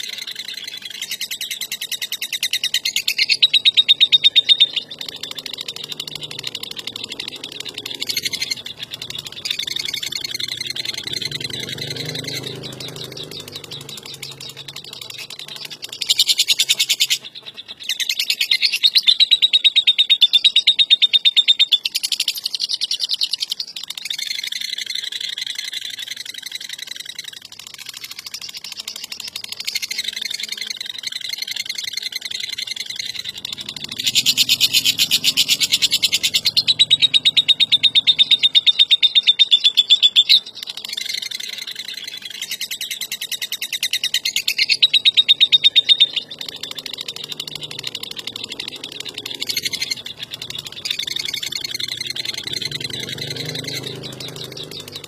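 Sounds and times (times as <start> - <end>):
lovebird chattering trill: 0.0 - 55.0.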